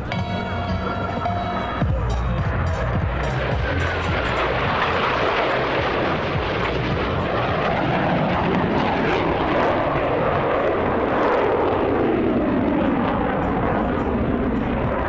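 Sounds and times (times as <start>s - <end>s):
jet engine flying past: 0.0s - 15.0s.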